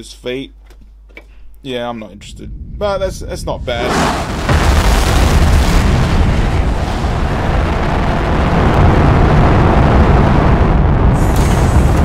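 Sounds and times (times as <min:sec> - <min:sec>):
rocket engine rumble: 0:02.1 - 0:12.0.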